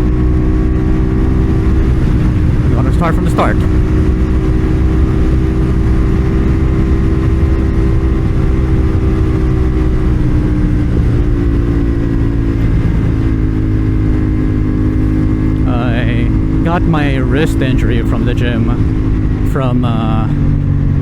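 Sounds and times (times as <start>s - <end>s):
motorcycle engine running: 0.0s - 21.0s
rushing low-pitched noise: 0.0s - 21.0s.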